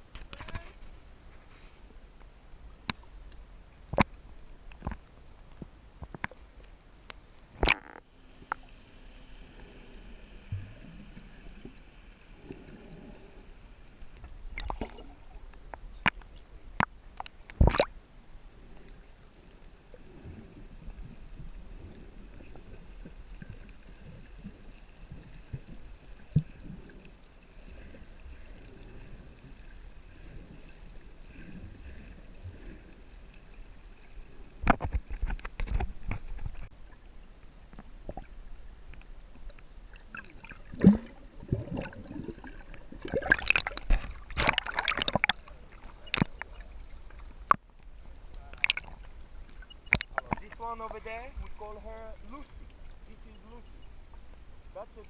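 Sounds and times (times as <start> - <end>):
water sloshing and gurgling: 0.0 - 55.0.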